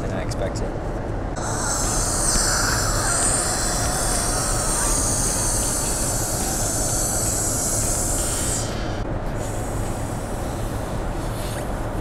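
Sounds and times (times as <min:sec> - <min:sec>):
airplane cabin drone: 0:01.0 - 0:12.0.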